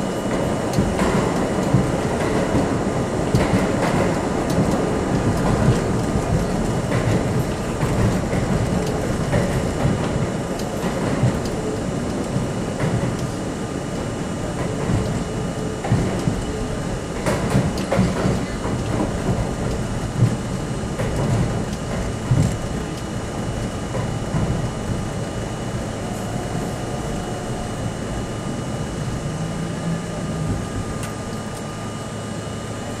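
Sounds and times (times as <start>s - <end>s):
subway train wheels rumbling on rail: 0.0s - 33.0s.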